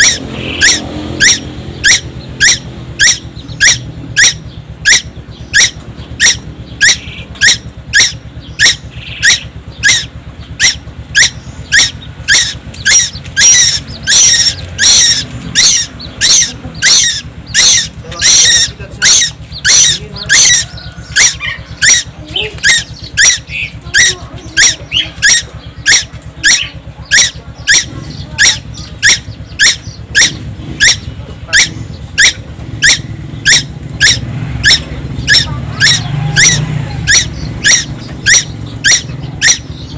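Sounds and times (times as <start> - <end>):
songbird high sharp calls: 0.0 - 39.9.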